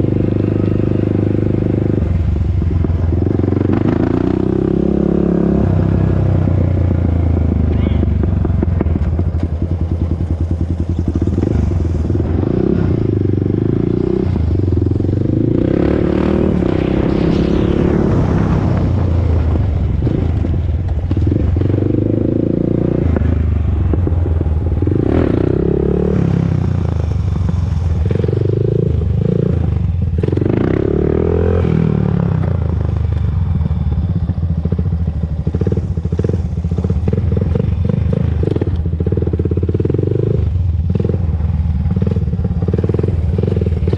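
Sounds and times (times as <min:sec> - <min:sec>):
atv engine revving: 0:00.0 - 0:33.3, 0:34.2 - 0:43.9.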